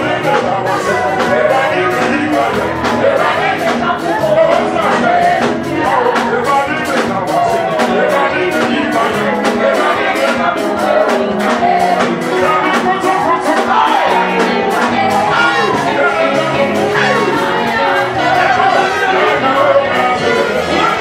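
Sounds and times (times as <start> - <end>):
person singing: 0.0 - 21.0
praise band over loudspeakers: 0.0 - 21.0
steady drumbeat: 0.0 - 21.0.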